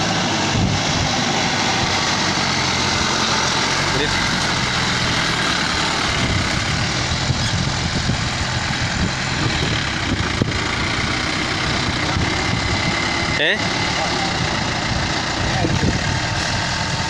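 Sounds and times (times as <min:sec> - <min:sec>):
pickup engine running at low revs: 0:00.0 - 0:17.0.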